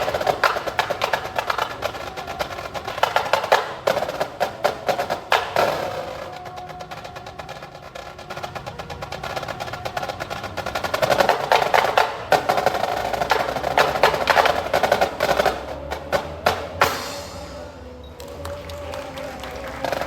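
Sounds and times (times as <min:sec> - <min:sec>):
accented percussion hits: 0:00.0 - 0:20.0
drum and block strokes: 0:00.0 - 0:20.0.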